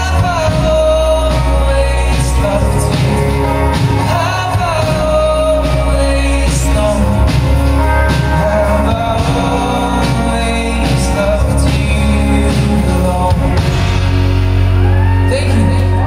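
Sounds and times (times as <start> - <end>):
drum and cymbal hits: 0.0 - 16.0
live rock band playing: 0.0 - 16.0
person singing: 0.0 - 16.0.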